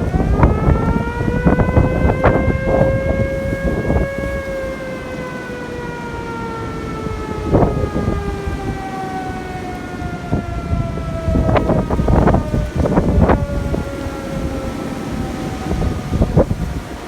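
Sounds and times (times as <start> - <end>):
howling wind tone: 0.0 - 17.0
wind buffeting microphone: 0.0 - 17.0.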